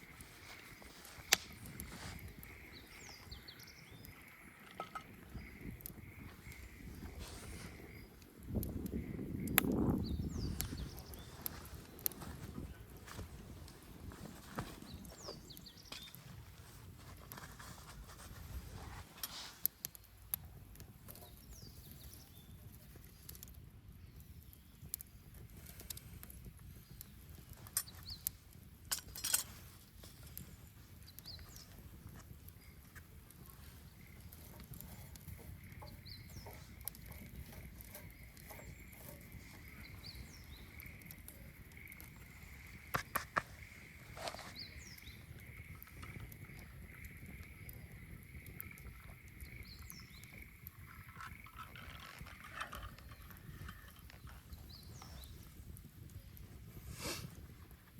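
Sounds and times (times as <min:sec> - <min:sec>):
bonfire crackling and popping: 0:00.0 - 0:57.9
flames rumbling: 0:00.0 - 0:57.9.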